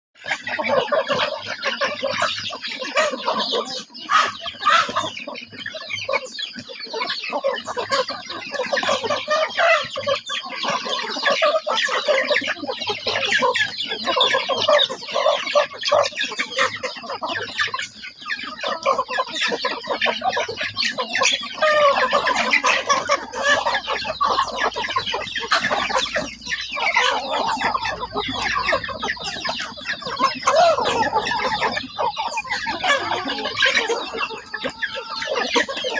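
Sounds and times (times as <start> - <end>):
young chickens clucking: 0.2 - 35.9.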